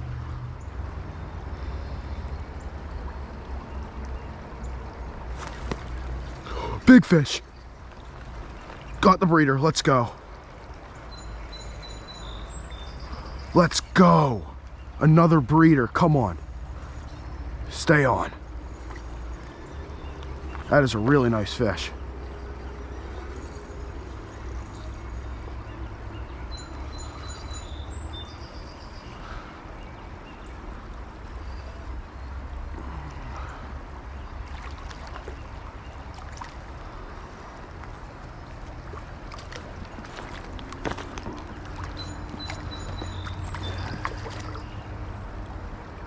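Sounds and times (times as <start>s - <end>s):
creek water flowing and splashing: 0.0s - 46.0s.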